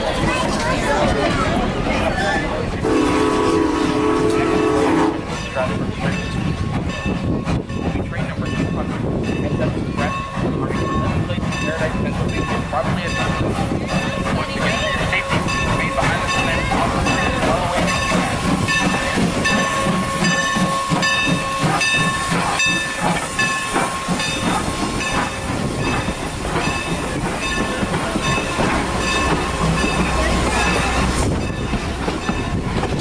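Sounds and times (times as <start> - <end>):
train whine: 0.0 - 33.0
train wheels clicking over track joints: 3.6 - 33.0.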